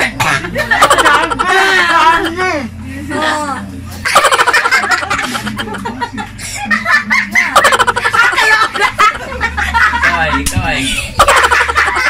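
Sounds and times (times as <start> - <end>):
garbled talk: 0.0 - 11.5
people laughing: 0.0 - 12.0.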